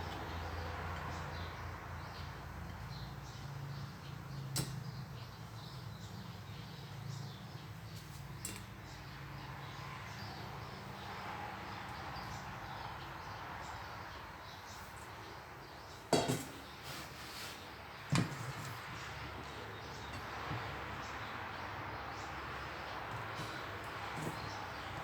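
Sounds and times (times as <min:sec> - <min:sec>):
birds chirping faintly: 0:00.0 - 0:25.0.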